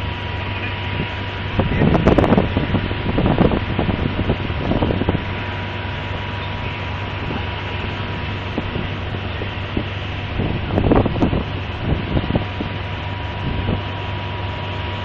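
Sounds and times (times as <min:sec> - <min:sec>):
engine humming: 0:00.0 - 0:15.0
wind hiss on microphone: 0:00.0 - 0:15.0.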